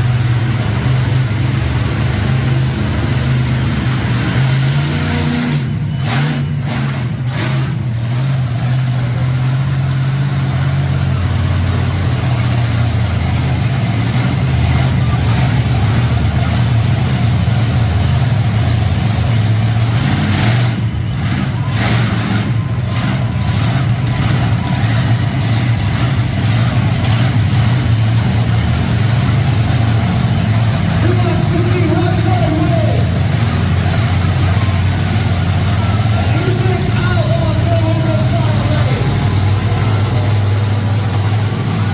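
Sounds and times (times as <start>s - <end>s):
monster truck engines revving: 0.0s - 41.9s.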